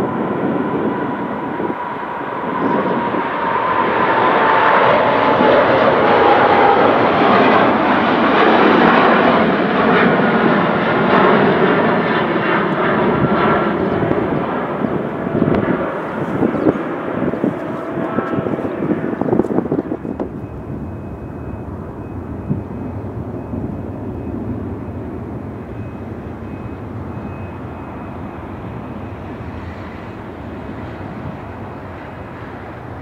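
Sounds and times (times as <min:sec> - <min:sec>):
loud passing engine roar: 0:00.0 - 0:33.0.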